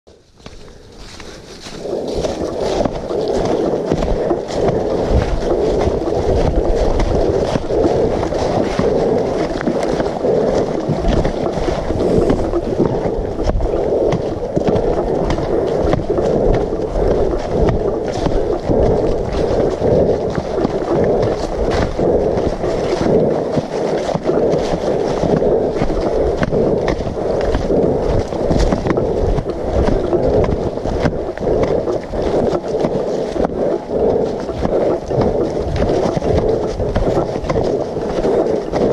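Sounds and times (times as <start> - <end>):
footsteps on dry leaves and stones: 0.1 - 38.9
steady rushing noise: 0.1 - 38.9.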